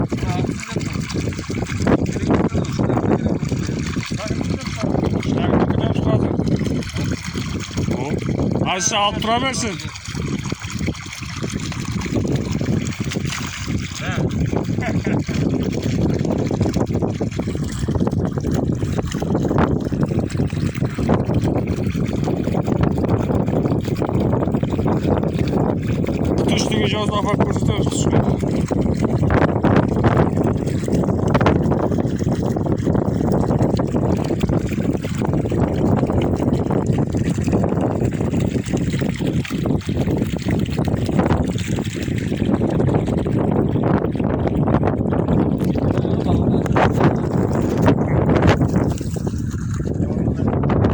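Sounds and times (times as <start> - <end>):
water gushing and splashing: 0.0 - 50.9.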